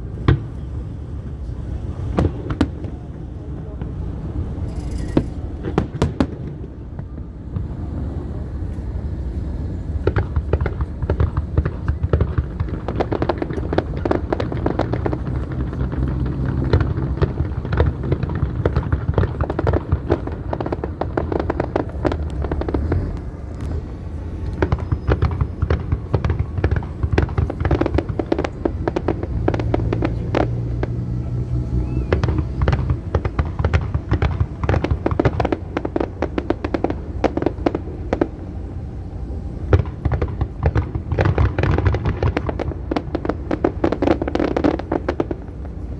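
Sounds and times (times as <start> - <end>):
low rumble: 0.0 - 43.8
fireworks cracking and popping: 1.4 - 45.9.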